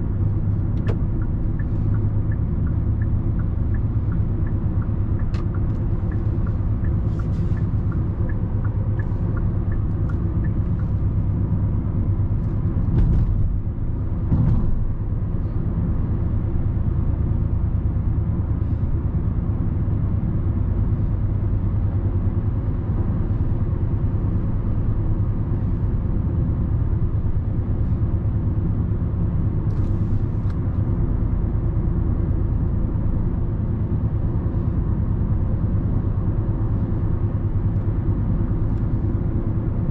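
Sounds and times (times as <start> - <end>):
car engine drone: 0.0 - 39.9
road and tyre rumble: 0.0 - 39.9.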